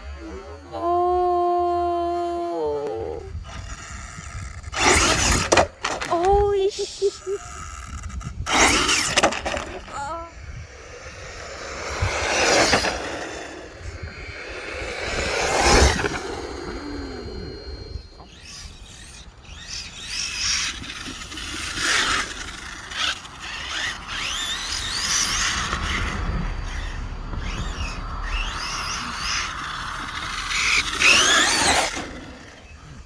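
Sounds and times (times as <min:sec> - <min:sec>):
rc truck squealing: 0:00.0 - 0:33.0
mechanical rubbing: 0:03.3 - 0:33.0.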